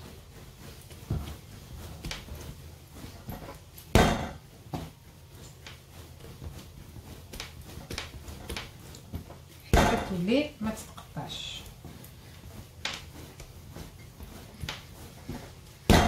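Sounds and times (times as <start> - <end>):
hands kneading dough: 0.0 - 16.0.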